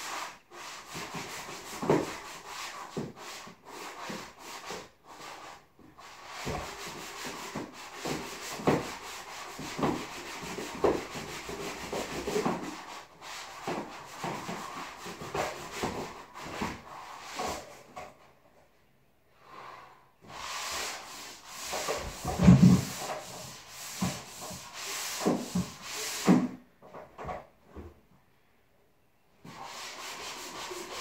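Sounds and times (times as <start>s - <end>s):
hand sanding a wall: 0.0s - 18.2s, 19.4s - 26.6s, 29.5s - 31.0s.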